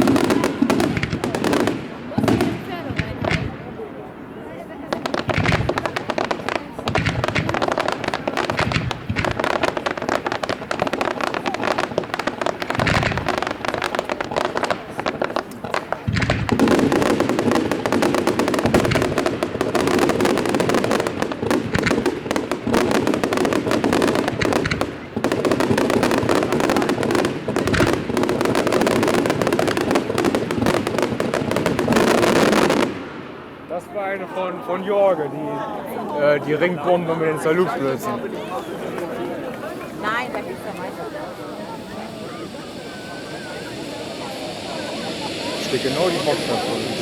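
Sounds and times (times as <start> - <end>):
fireworks crackling and banging: 0.0 - 34.3, 37.4 - 47.0.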